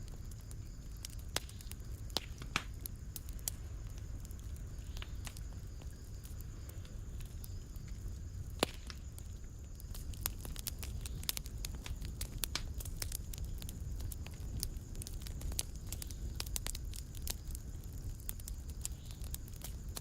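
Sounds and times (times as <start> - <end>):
sharp pops of fire: 0.0 - 20.0
wood fire crackling: 0.0 - 20.0.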